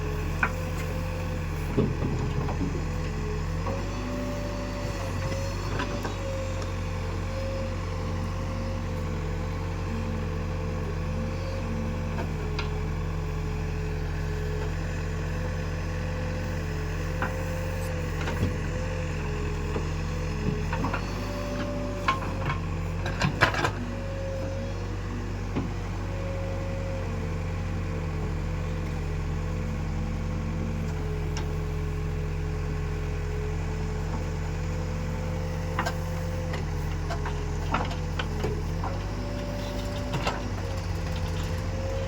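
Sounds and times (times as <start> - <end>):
diesel machinery engine hum: 0.0 - 42.0.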